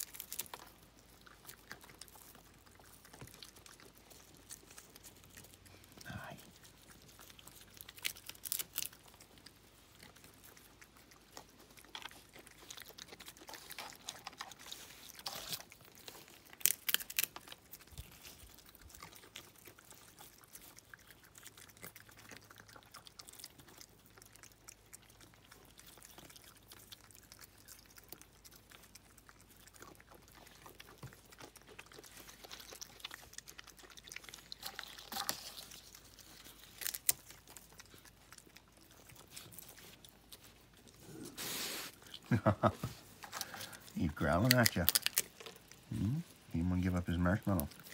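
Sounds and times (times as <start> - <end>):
small crunches and clicks: 0.0 - 41.1, 42.0 - 46.4
animals chewing and smacking: 0.0 - 47.9.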